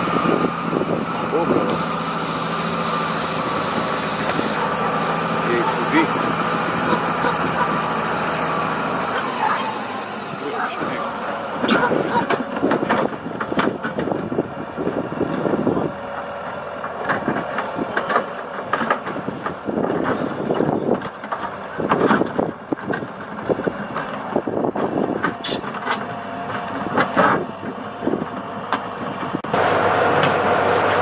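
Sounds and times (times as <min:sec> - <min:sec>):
heavy diesel machinery running: 0:00.0 - 0:31.0
steady engine drone: 0:00.0 - 0:31.0.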